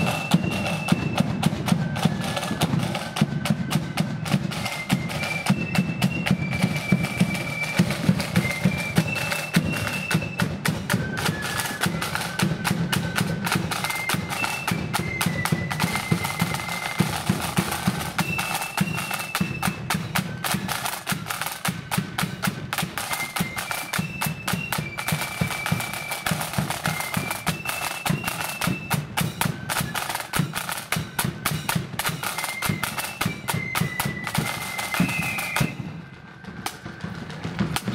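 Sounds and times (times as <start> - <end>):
flutes playing high melody: 0.0 - 37.9
rapid snare drumming: 0.0 - 37.9.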